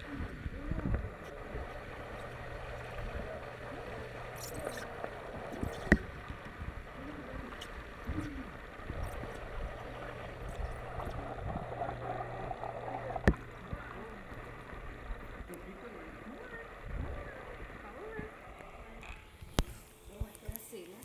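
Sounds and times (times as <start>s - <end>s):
muffled underwater water churning: 0.0s - 21.0s
steady low hum: 0.0s - 21.0s.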